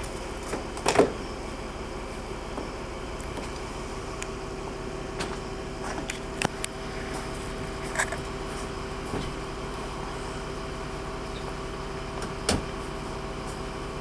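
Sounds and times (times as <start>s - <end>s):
crane engine humming: 0.0s - 14.0s.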